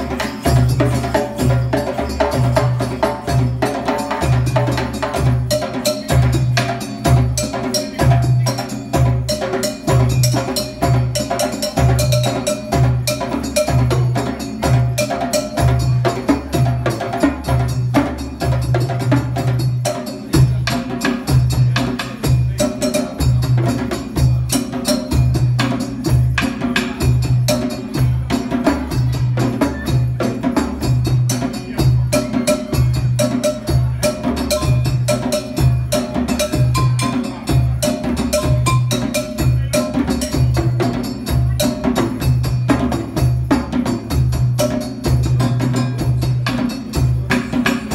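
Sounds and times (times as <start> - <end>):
djembe slaps and tones: 0.0 - 47.9.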